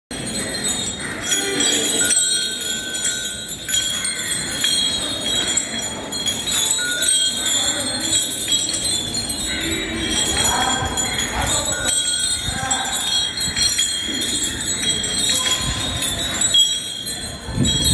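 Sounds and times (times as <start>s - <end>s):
bells jingling: 0.1s - 17.9s.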